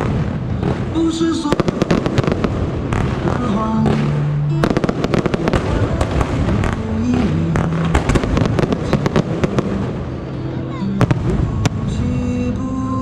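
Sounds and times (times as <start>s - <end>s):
fireworks bangs and crackles: 0.0s - 12.6s
song with low held notes: 0.0s - 13.0s.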